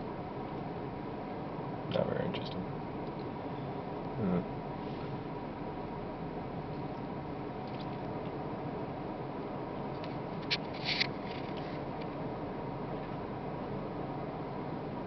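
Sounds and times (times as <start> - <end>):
car cabin hum and hiss: 0.0 - 15.0
faint steady tone: 0.0 - 15.0.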